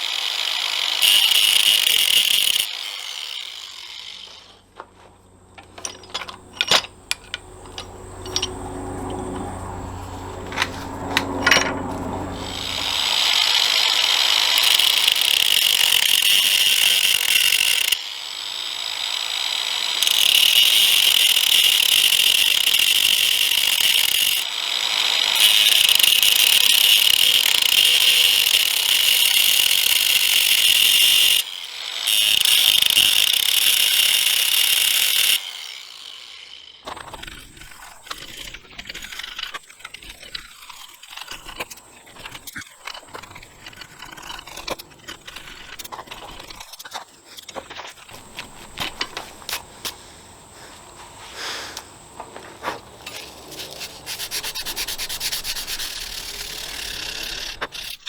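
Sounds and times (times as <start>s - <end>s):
power tool abrading metal: 0.0s - 50.4s, 53.0s - 58.0s.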